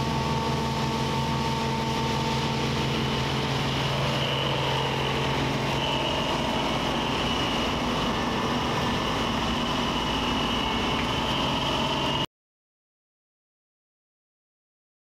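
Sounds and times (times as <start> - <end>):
combine harvester running: 0.0 - 12.3.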